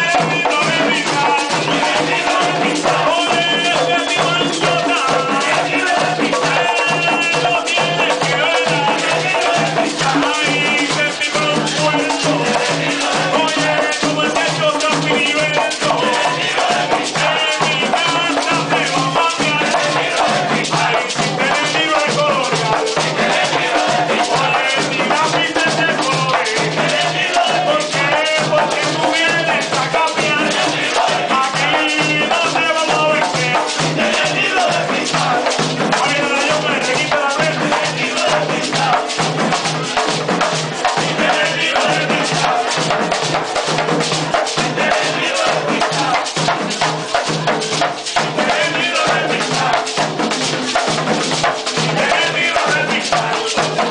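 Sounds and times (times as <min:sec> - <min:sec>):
man singing into microphone: 0:00.0 - 0:39.2, 0:40.7 - 0:43.2, 0:44.3 - 0:50.0, 0:51.8 - 0:53.9
frame drums beating fast rhythm: 0:00.0 - 0:53.9
jingling tambourines: 0:00.0 - 0:53.9.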